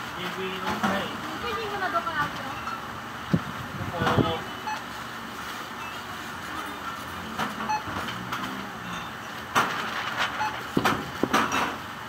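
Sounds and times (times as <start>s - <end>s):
shop background din: 0.0s - 12.0s.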